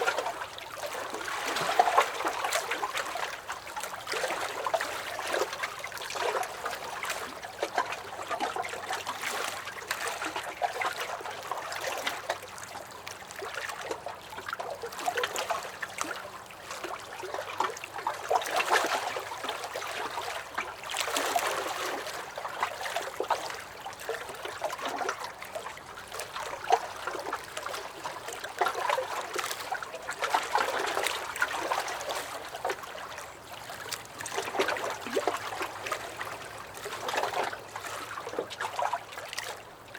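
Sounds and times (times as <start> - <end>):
waves lapping against a dock: 0.0 - 39.9.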